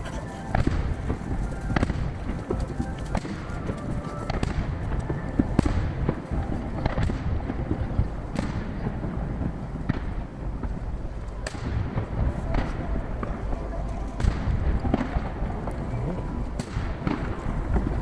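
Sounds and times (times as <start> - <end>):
distant fireworks bangs: 0.0 - 18.0.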